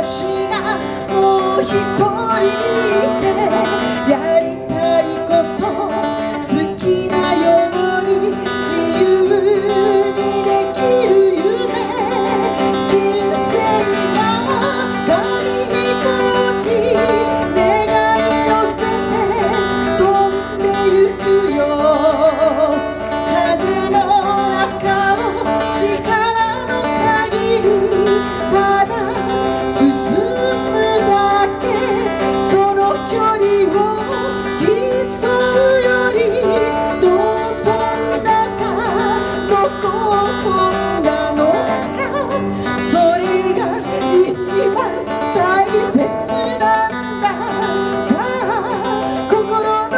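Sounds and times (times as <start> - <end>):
acoustic guitar: 0.0 - 49.9
woman singing into a microphone: 0.0 - 49.9.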